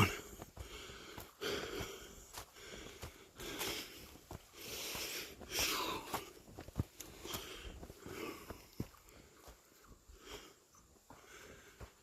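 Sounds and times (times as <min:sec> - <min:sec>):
person breathing hard: 0:00.0 - 0:12.0.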